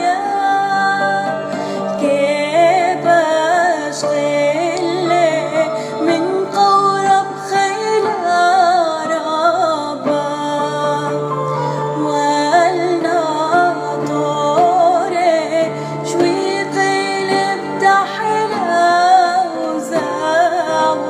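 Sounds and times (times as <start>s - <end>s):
instrumental accompaniment: 0.0s - 21.0s
woman singing a hymn: 0.0s - 21.0s.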